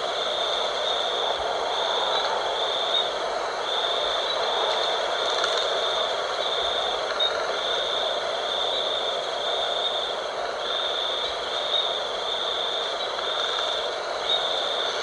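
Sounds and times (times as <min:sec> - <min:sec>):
wind blowing: 0:00.0 - 0:15.0.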